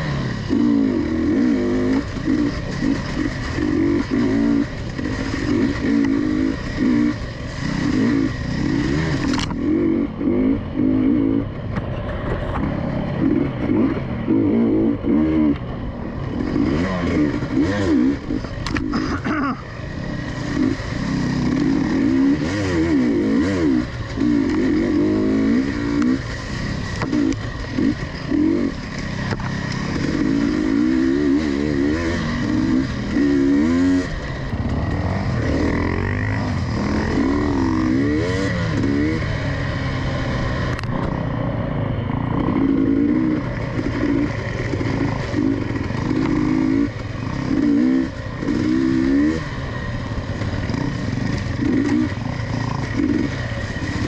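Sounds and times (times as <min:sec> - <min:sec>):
two-stroke motorbike engine revving: 0:00.0 - 0:54.0.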